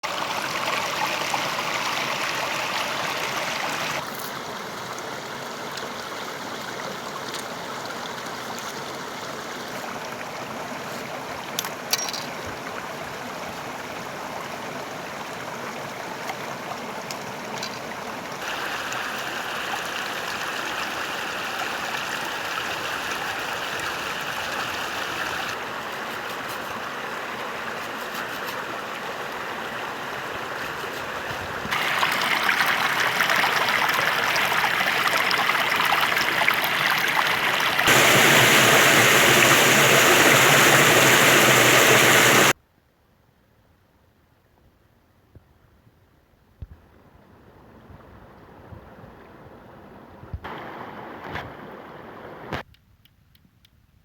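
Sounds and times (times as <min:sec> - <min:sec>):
stream water rushing: 0:00.0 - 0:42.6, 0:50.4 - 0:52.6.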